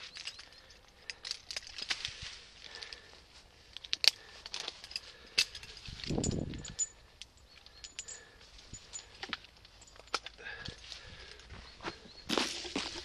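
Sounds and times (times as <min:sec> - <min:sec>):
carabiners clinking: 0:00.0 - 0:13.0.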